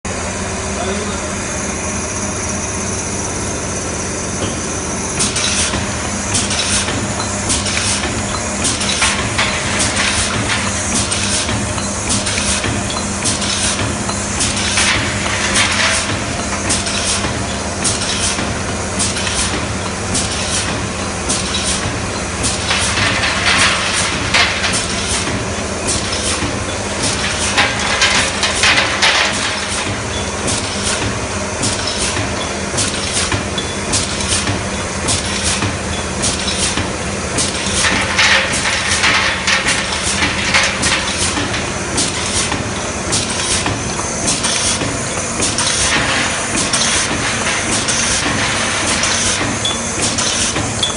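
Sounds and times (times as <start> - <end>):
low machine hum: 0.1 - 50.9
machine clicks and knocks: 5.2 - 50.9.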